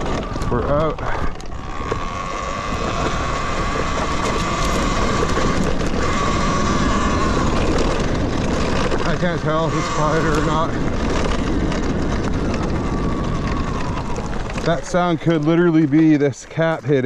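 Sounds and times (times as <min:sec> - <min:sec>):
electric motor whine: 0:00.0 - 0:17.0
rattling clicks from bike: 0:00.0 - 0:17.0
wind: 0:00.0 - 0:17.0.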